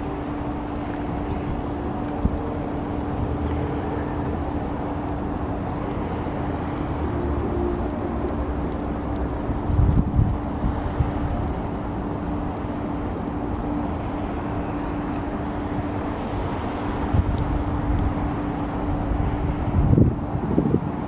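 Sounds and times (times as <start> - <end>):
wind buffeting microphone: 0.0 - 13.0, 14.0 - 21.0
jet engines droning: 0.0 - 21.0.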